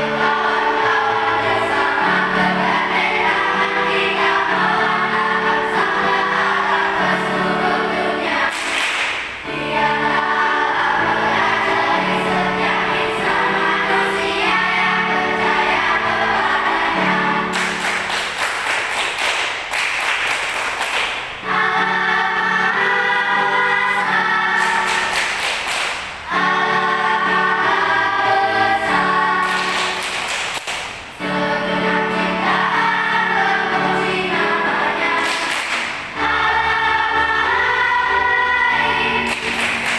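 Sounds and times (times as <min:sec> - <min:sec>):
children's choir singing: 0:00.0 - 0:39.9.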